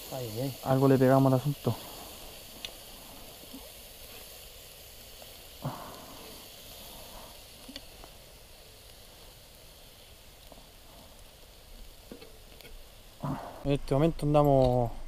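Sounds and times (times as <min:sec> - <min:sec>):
meat sizzling on grill: 0:00.0 - 0:14.9.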